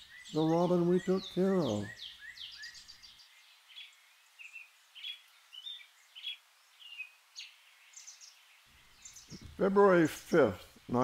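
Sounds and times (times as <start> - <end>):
outdoor hiss: 0.0 - 11.0
songbirds chirping: 0.0 - 11.0.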